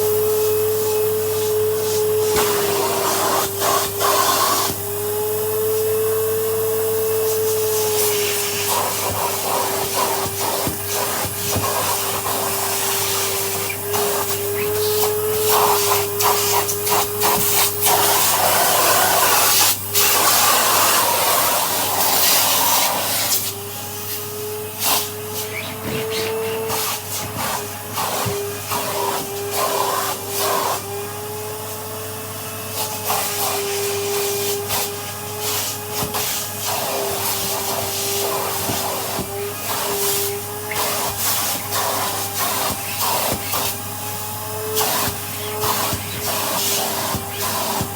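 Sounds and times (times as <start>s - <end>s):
vacuum cleaner motor whine: 0.0s - 47.9s.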